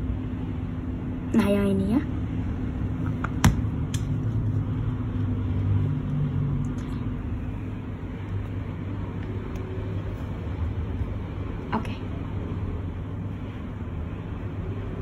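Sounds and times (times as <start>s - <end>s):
low background rumble and hum: 0.0s - 15.0s.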